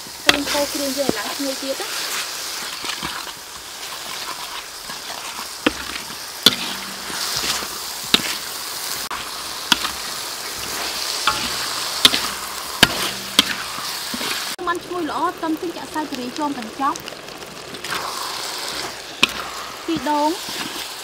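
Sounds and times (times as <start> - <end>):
food sizzling in a wok: 0.0 - 21.0
metal spatula scraping a wok: 0.3 - 14.6, 17.7 - 21.0.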